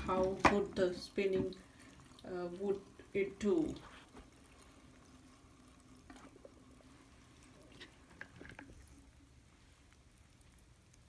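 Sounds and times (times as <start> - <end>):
water trickling into sink: 0.0 - 11.0.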